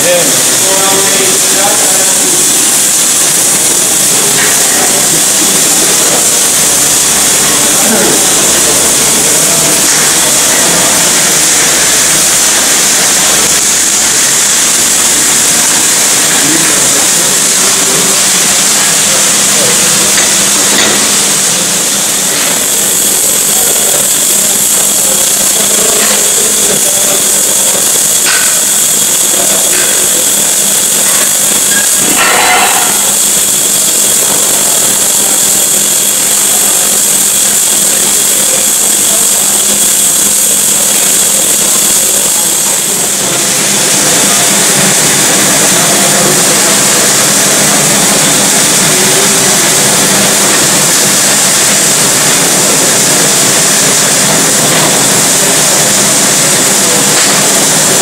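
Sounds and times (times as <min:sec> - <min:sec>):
arc welding hiss and crackle: 0:00.0 - 0:58.0.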